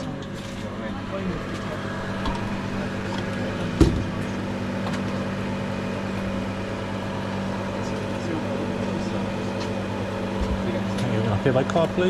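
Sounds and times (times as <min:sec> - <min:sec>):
juicer motor humming: 0:00.0 - 0:12.0.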